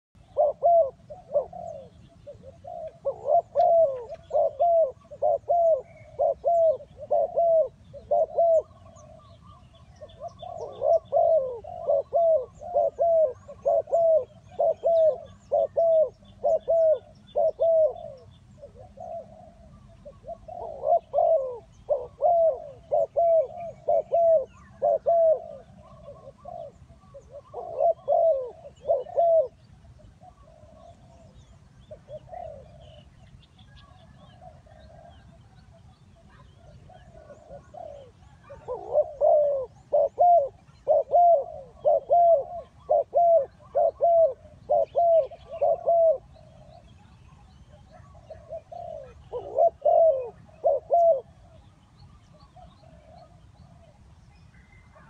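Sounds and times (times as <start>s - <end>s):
dove cooing: 0.2s - 55.0s
small birds chirping: 0.2s - 55.0s.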